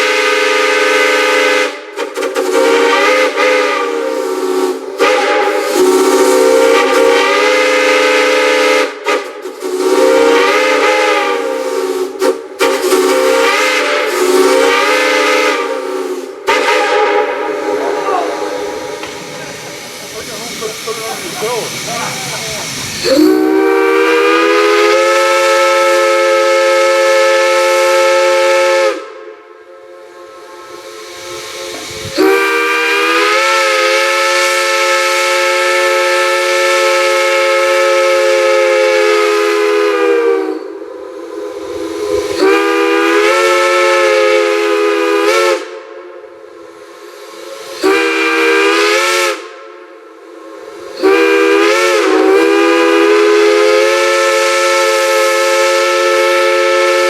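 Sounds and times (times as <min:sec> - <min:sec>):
chime steam whistle blasts: 0:00.0 - 0:19.1, 0:23.0 - 0:57.0
steam hissing: 0:00.0 - 0:57.0.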